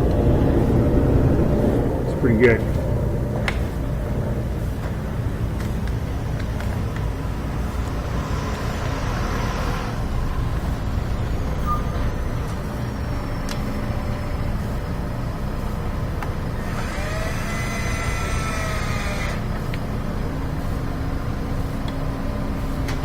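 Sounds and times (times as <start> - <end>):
dryer vent exhaust air rushing: 0.0 - 23.0.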